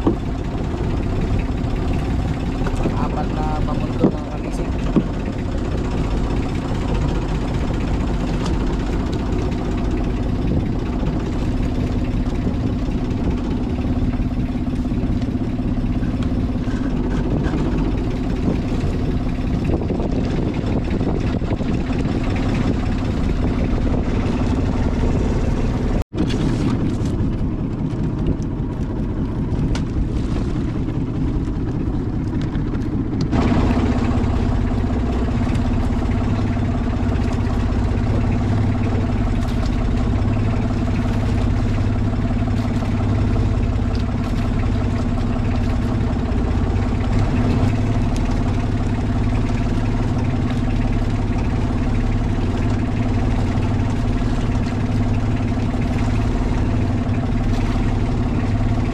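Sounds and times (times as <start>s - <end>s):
boat engine humming: 0.0s - 58.9s.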